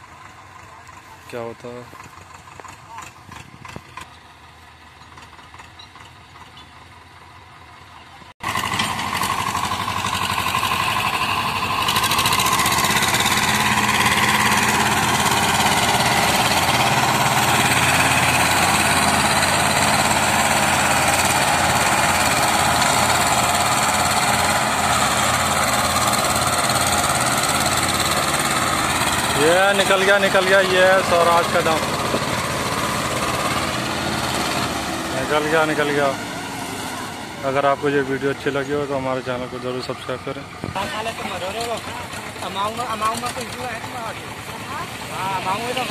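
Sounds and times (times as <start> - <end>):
tractor diesel engines under load: 0.0 - 45.9.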